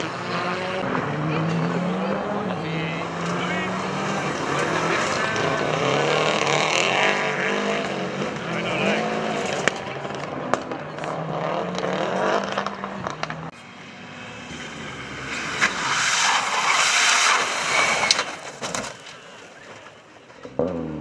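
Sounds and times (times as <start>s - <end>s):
rally car engine at full load: 0.0s - 21.0s.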